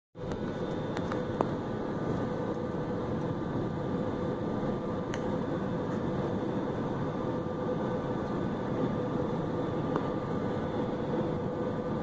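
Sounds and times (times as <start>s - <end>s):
constant cabin hum: 0.2s - 12.0s
jet engine and airflow rush: 0.2s - 12.0s.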